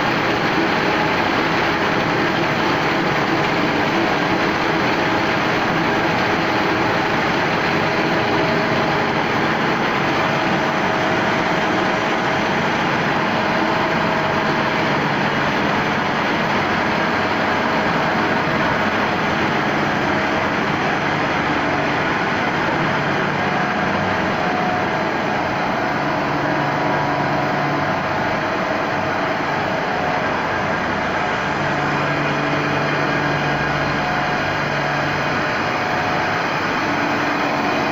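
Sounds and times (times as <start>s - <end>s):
refrigeration compressor running: 0.0s - 37.9s.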